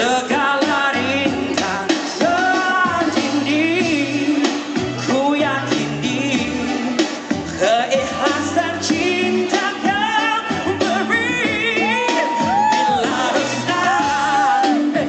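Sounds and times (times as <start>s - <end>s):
amplified band playing: 0.0s - 15.0s
man singing pop song live: 0.0s - 15.0s.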